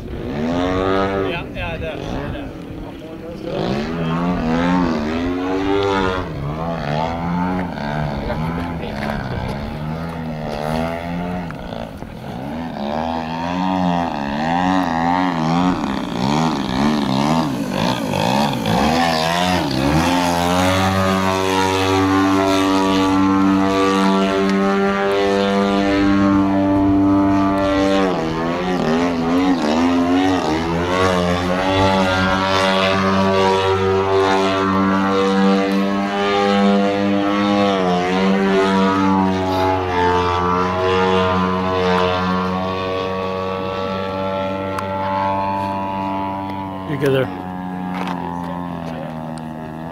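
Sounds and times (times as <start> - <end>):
model plane engine and propeller: 0.0 - 49.9.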